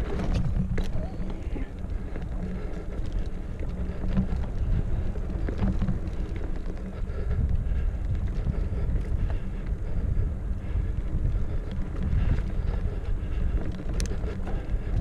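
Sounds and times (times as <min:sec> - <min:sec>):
bike clicks and rattles: 0:00.0 - 0:15.0
wind rumble on microphone: 0:00.0 - 0:15.0.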